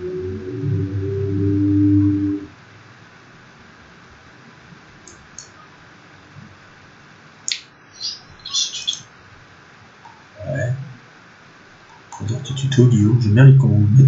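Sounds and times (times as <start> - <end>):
faint hiss: 1.5 - 14.0.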